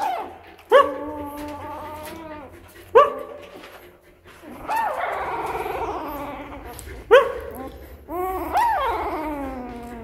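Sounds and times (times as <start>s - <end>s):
puppy crying: 0.0s - 2.8s, 4.4s - 10.0s.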